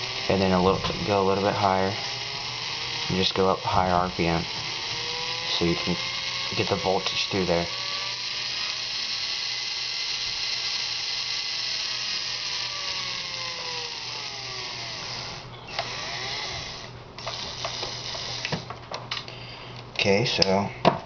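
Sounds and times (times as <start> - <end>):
small electric motor whining: 0.0 - 18.8.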